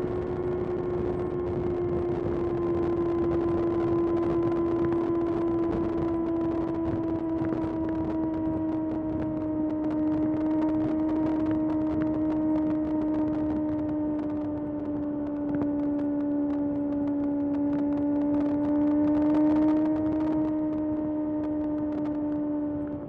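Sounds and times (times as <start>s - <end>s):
motorcycle engine at high revs: 0.0s - 23.0s.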